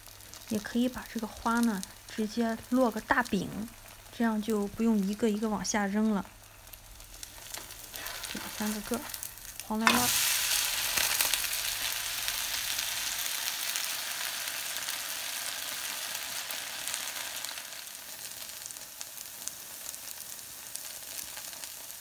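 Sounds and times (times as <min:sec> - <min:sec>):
batter sizzling in hot oil: 0:00.0 - 0:22.0.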